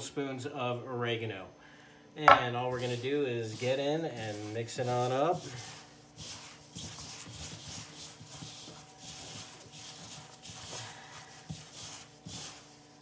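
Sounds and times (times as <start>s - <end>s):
gritty swishing of dry rub: 2.6s - 13.0s.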